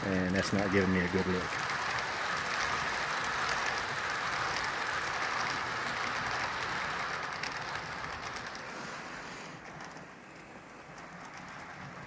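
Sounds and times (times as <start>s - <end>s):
model train whirring on track: 0.0s - 12.0s.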